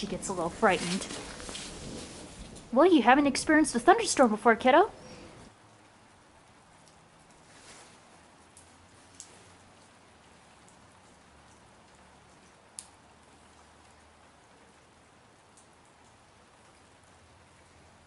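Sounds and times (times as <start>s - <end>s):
light rain patter: 0.0s - 18.0s.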